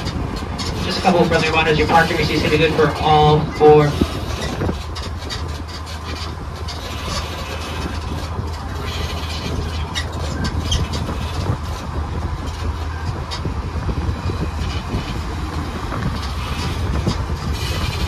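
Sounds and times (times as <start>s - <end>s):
light rattles: 0.0s - 18.0s
road noise: 0.0s - 18.0s
tram rumbling: 0.0s - 18.0s.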